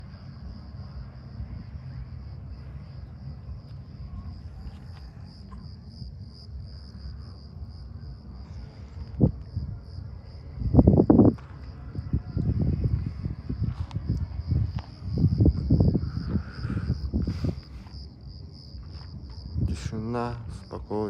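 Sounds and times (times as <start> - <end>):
low rumble: 0.0 - 20.9
crickets chirring: 0.0 - 21.0.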